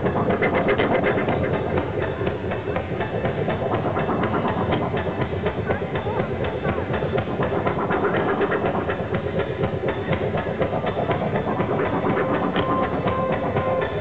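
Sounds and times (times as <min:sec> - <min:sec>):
electronic rock band playing live: 0:00.0 - 0:14.0.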